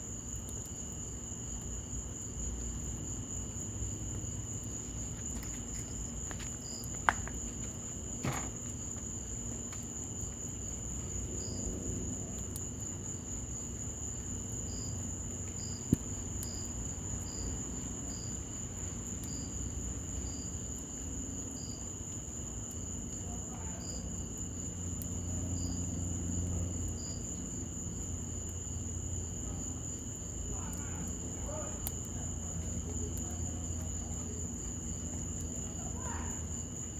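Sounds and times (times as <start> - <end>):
night insects trilling: 0.0 - 36.9
wood fire popping: 0.0 - 36.9.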